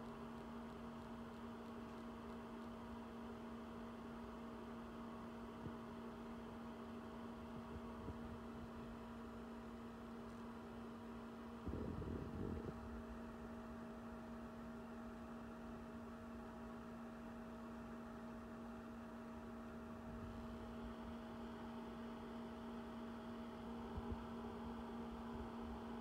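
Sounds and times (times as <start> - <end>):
power supply electrical hum: 0.0 - 26.0.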